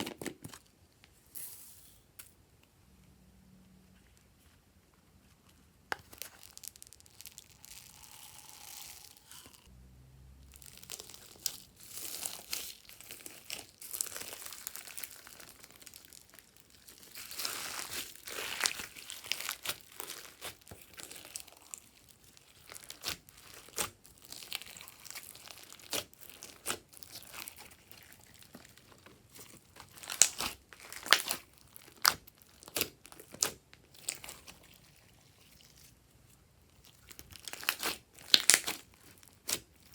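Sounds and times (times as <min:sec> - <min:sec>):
slime crackling and popping: 0:05.9 - 0:09.7, 0:10.5 - 0:35.9, 0:36.7 - 0:39.9.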